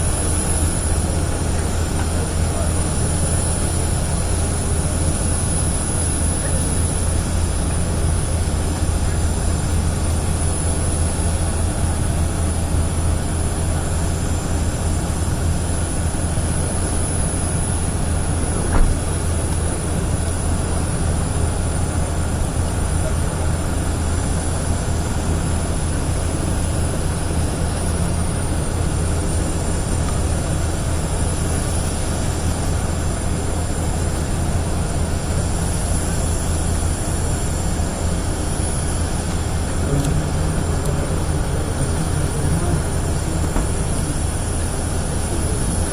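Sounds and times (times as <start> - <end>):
faint voices: 0.0 - 45.9
low engine rumble: 0.0 - 45.9.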